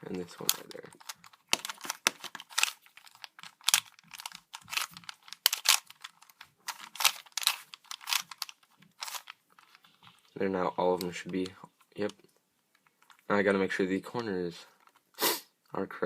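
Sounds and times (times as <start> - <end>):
puzzle cube plastic clicks: 0.1 - 13.3.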